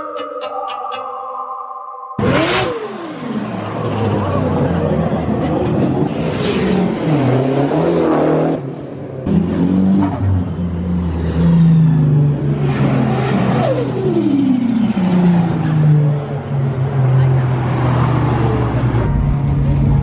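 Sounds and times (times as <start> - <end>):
car engines revving: 2.2 - 20.0.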